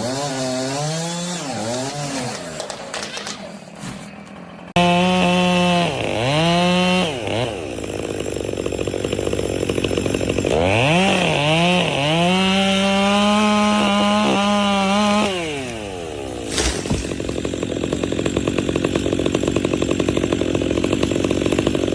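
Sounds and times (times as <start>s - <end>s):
chainsaw revving: 0.0s - 21.9s.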